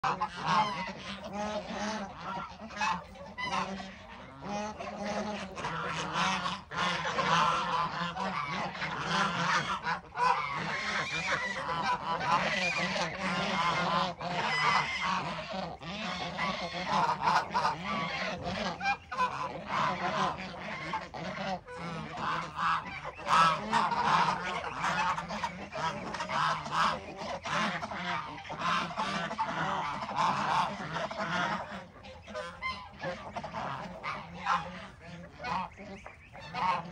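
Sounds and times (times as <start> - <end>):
flock of geese honking: 0.0 - 36.9.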